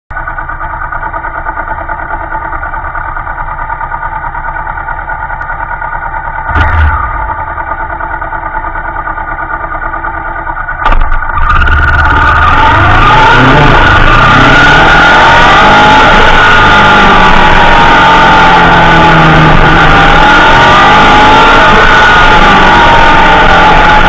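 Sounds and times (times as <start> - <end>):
motorcycle engine idling and revving: 0.1 - 24.0.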